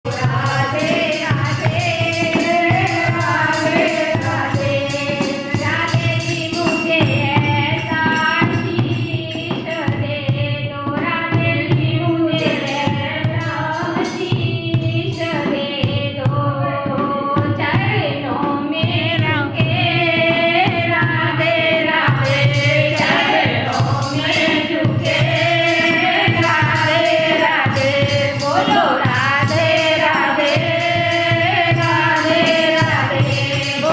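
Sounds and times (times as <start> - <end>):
hand percussion beat: 0.0 - 33.9
high jingling percussion: 0.0 - 33.9
devotional singing: 0.1 - 33.9.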